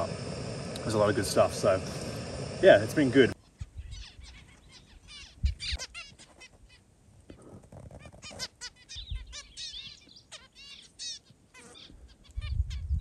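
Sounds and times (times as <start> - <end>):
finches calling: 0.0 - 6.8, 8.3 - 13.0.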